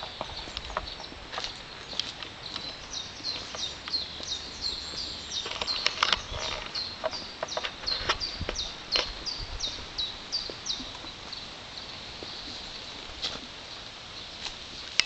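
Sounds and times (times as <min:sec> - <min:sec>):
footsteps crunching on path: 0:00.0 - 0:15.0.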